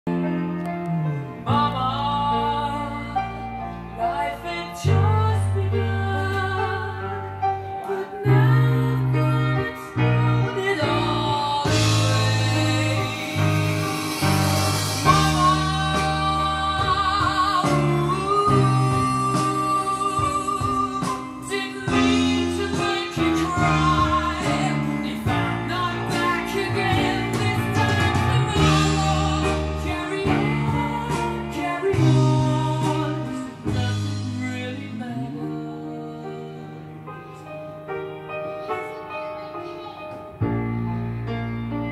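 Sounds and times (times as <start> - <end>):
song with singer and instruments: 0.1 - 41.9.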